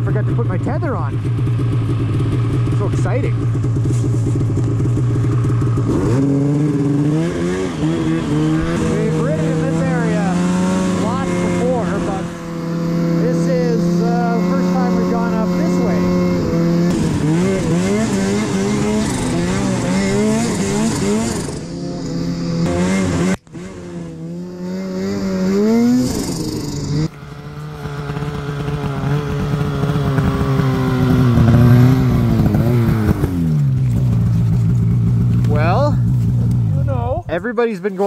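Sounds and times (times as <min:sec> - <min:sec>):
snowmobile engine revving: 0:00.0 - 0:38.0.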